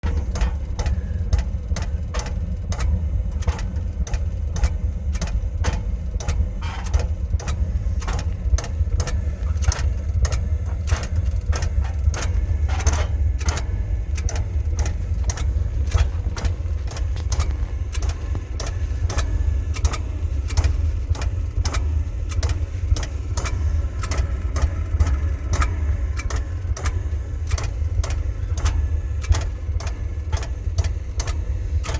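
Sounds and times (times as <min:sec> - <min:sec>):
oil burner rumbling: 0:00.0 - 0:31.9.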